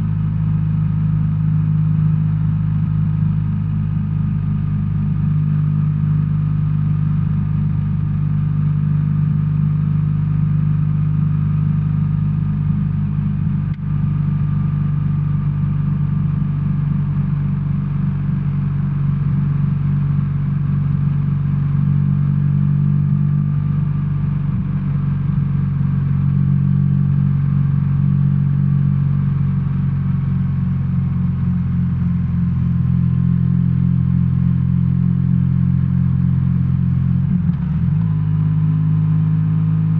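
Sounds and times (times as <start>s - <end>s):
motorcycle engine running at low revs: 0.0s - 39.9s.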